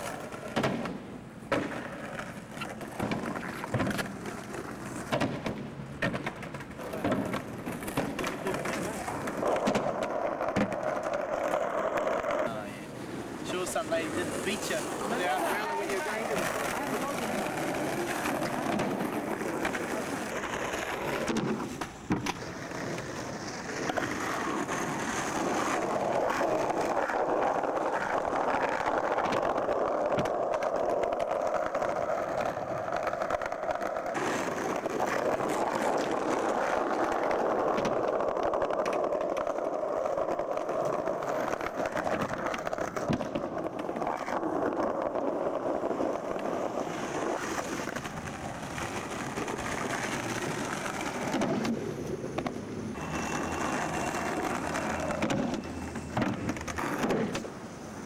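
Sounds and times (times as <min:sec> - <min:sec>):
skateboard clacks: 0:00.0 - 0:58.0
skateboard wheels rolling on paving: 0:00.0 - 0:58.0.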